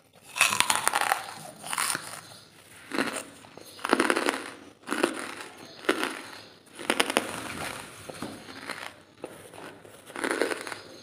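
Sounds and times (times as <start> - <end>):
charcoal crunching and crackling: 0.0 - 11.0.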